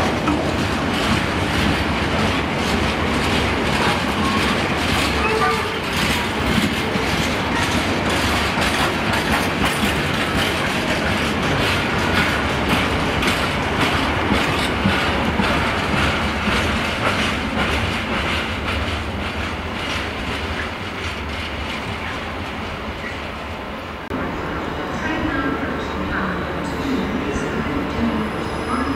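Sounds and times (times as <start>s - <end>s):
wheels clacking over rail joints: 0.0s - 23.2s
freight train rumbling past: 0.0s - 28.9s.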